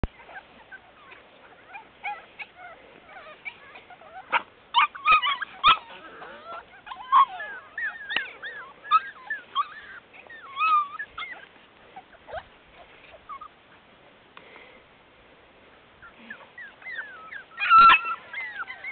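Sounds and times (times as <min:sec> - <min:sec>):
puppies whimpering and yipping: 0:00.0 - 0:13.8, 0:16.0 - 0:18.9.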